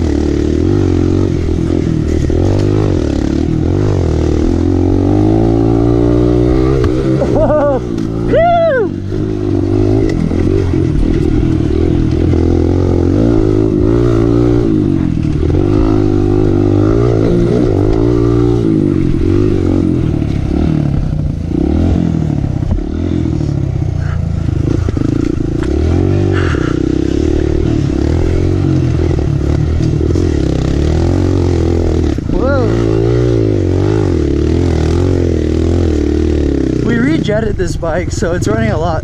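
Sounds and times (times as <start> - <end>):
bike rattling: 0.0 - 39.0
dirt bike engine revving: 0.0 - 39.0.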